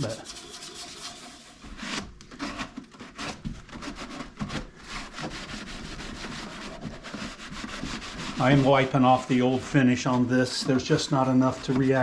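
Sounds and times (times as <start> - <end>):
hand scrubbing wood: 0.0 - 12.0.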